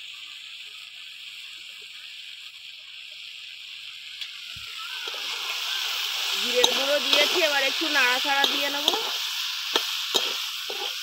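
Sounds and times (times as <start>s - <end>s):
food simmering and sizzling in wok: 0.0s - 11.0s.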